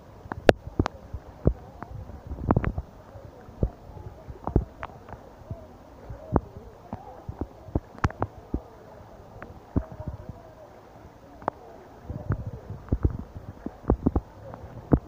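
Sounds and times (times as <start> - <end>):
flowing floodwater: 0.0 - 15.0
rain: 0.0 - 15.0.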